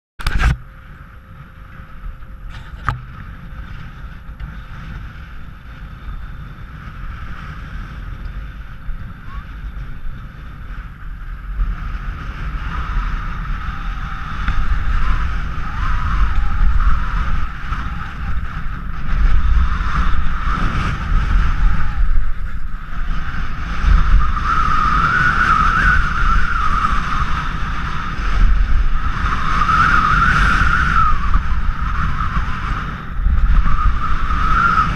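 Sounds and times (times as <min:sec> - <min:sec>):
wind buffeting microphone: 0:00.2 - 0:34.9.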